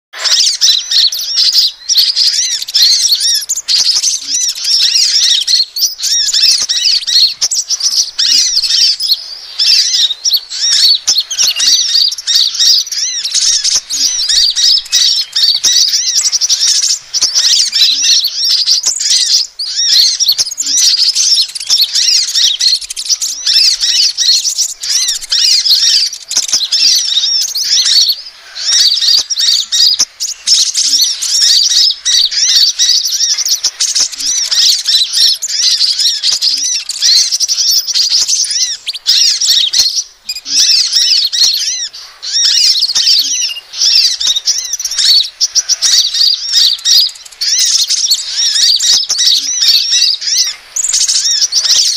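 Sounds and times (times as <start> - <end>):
songbirds chirping and twittering: 0.1 - 51.9.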